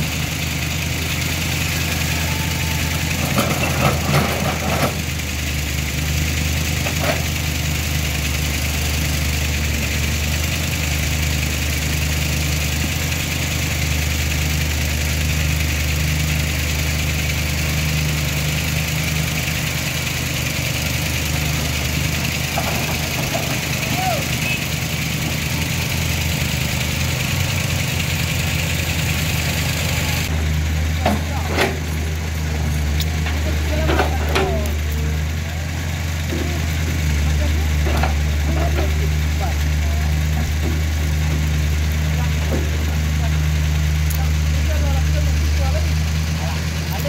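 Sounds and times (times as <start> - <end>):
vehicle engine idling: 0.0 - 47.0.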